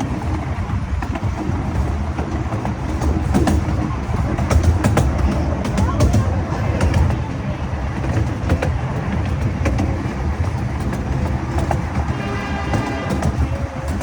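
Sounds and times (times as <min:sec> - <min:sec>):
train rumbling on track: 0:00.0 - 0:14.0
wheels clicking on rail joints: 0:00.0 - 0:14.0.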